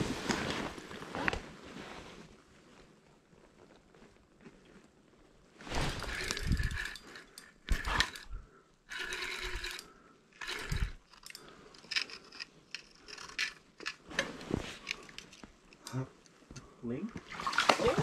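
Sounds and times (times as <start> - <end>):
rustling and scraping gear: 0.0 - 16.0.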